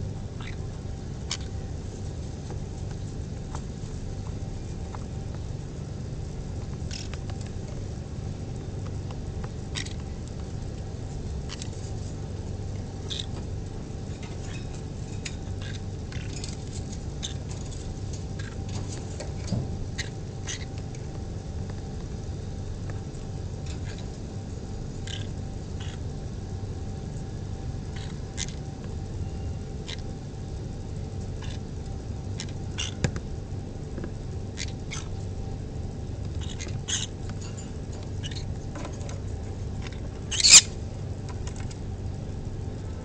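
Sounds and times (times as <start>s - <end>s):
electric fan humming: 0.0s - 43.0s.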